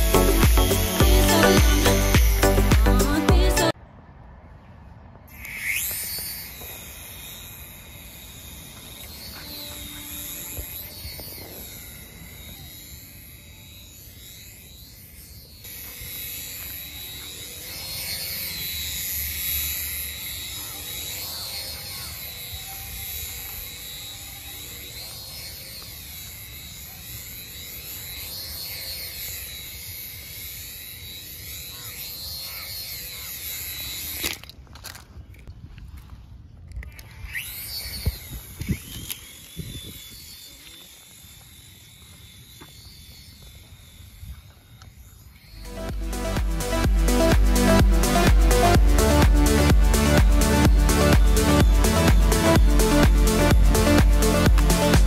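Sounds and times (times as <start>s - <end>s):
toy helicopter motor whine: 0.0s - 3.8s, 5.3s - 55.0s.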